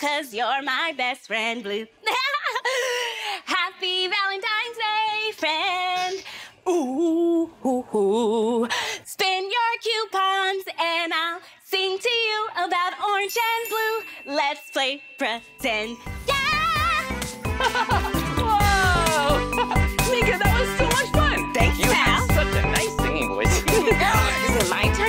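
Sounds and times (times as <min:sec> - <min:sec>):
woman singing: 0:00.0 - 0:02.5, 0:03.4 - 0:25.0.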